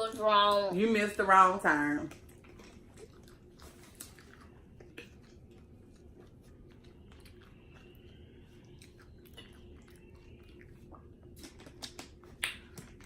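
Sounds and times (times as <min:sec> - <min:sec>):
chewing chips: 0:02.1 - 0:13.0.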